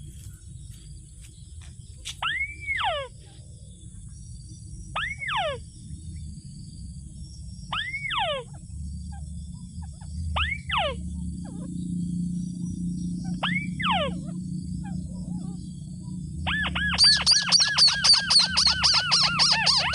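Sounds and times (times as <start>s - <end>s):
low rumble: 0.0s - 5.0s, 5.6s - 19.9s
rail bird calling: 0.0s - 6.4s, 7.5s - 19.9s
insect trilling: 0.0s - 19.9s.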